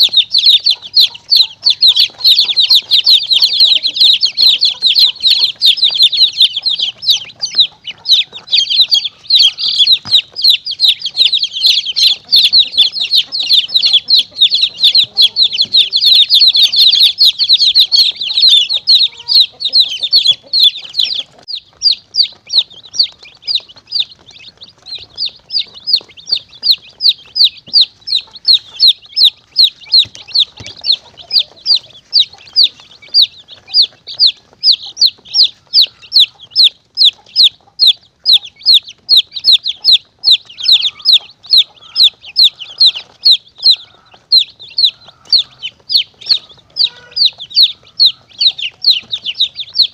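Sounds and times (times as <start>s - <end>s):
chicks peeping shrilly: 0.0s - 49.9s.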